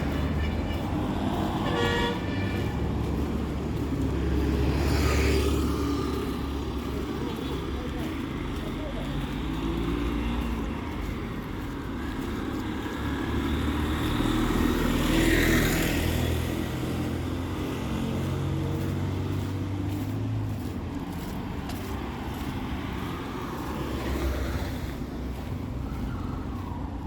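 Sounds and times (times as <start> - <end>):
vehicle passing close: 0.0 - 26.8
street traffic engines: 0.0 - 27.0.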